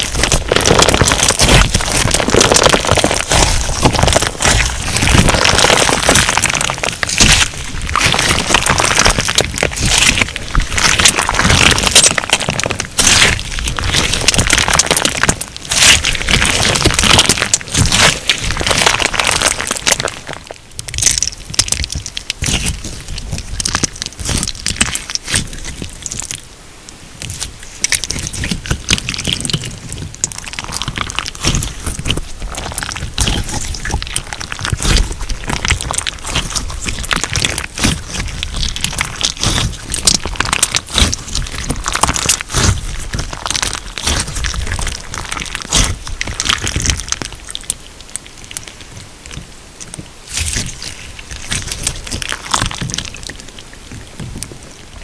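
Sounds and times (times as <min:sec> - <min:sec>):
crunchy slime crackling: 0:00.0 - 0:55.0.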